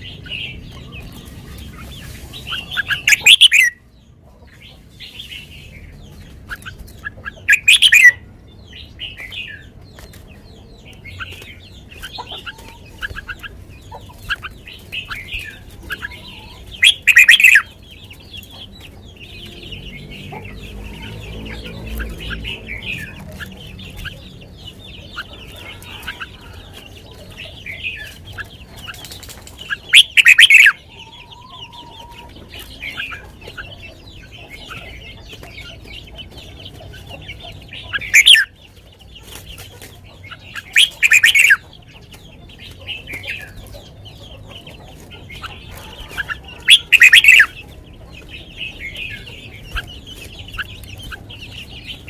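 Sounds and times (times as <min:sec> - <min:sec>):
bird singing chirpy phrases: 0:00.0 - 0:52.0
loud bursts of birdsong: 0:00.0 - 0:52.0.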